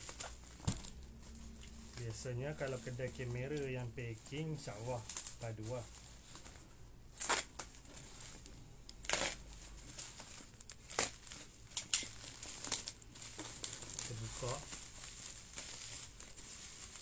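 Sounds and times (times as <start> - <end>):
plastic wrapping crinkling and tearing: 0.0 - 17.0.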